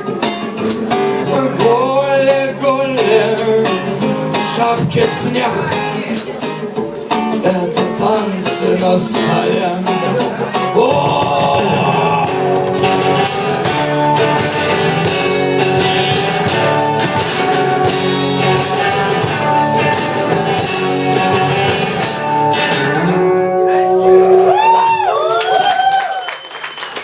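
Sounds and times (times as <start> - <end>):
drums keeping beat: 0.0 - 22.8
rock band instrumental: 0.0 - 25.0.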